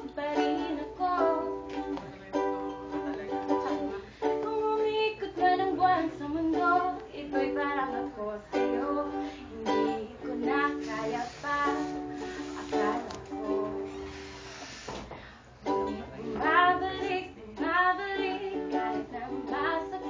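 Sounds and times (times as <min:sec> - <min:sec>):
woman singing: 0:00.0 - 0:14.1, 0:15.9 - 0:20.0
ukulele strumming: 0:00.0 - 0:14.9, 0:15.6 - 0:20.0.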